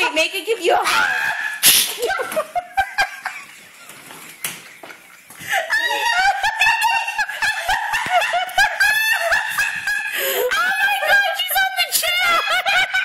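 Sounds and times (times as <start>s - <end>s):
high-pitched laughter: 0.9s - 13.0s.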